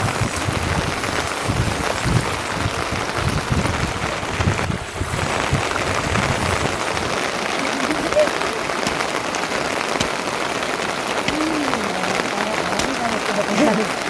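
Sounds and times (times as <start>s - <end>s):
low rumbles: 0.0s - 14.0s
steady rain hiss: 0.0s - 14.0s.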